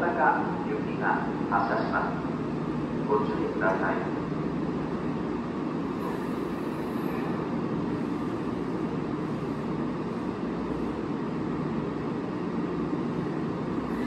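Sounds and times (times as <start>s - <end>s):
electric train equipment humming: 0.0s - 14.0s.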